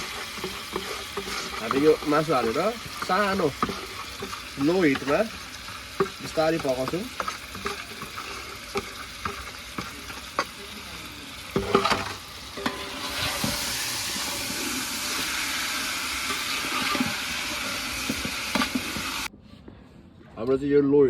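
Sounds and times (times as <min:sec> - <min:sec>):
spoon scraping a pot: 0:00.0 - 0:10.8, 0:11.5 - 0:19.3
meat sizzling: 0:00.0 - 0:19.3.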